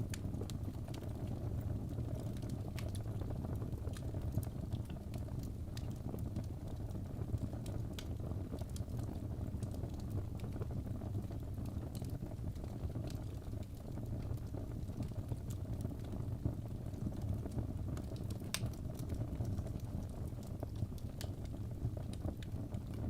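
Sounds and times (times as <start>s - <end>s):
fire flames burning: 0.0s - 23.0s
logs crackling and popping: 0.0s - 23.0s.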